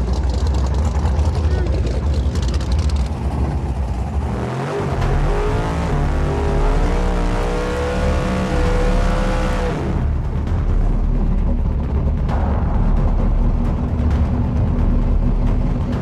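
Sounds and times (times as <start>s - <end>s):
drag race car engine at full throttle: 0.0s - 16.0s
steady low rumble: 0.0s - 16.0s.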